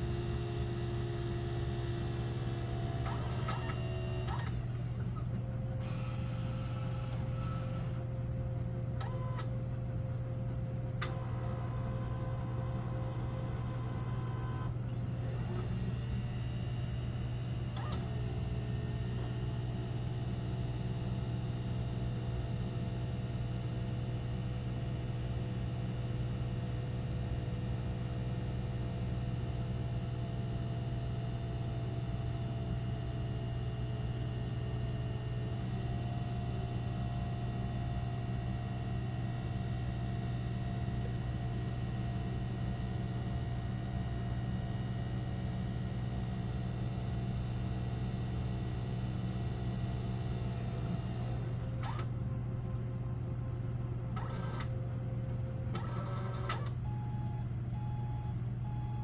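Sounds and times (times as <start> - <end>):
appliance motor hum: 0.0 - 59.0.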